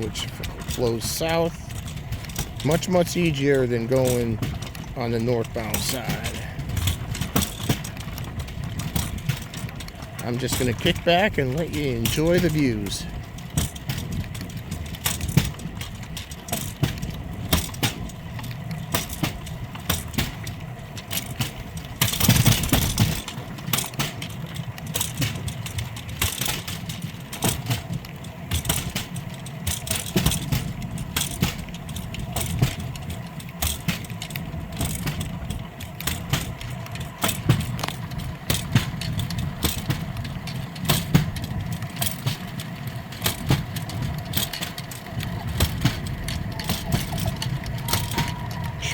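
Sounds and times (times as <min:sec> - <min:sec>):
steel wheels rumbling on track: 0:00.0 - 0:48.9
wheel and frame rattles: 0:00.0 - 0:48.9.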